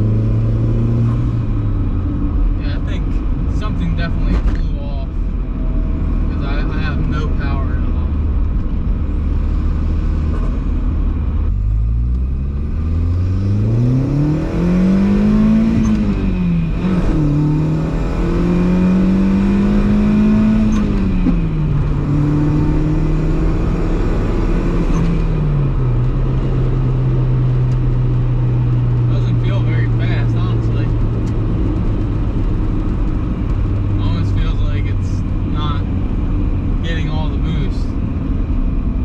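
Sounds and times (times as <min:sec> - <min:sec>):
car engine accelerating: 0:00.0 - 0:39.0.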